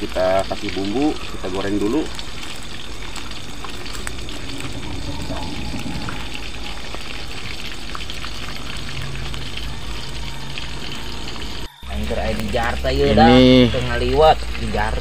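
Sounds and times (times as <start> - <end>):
fish frying in hot oil: 0.0 - 15.0.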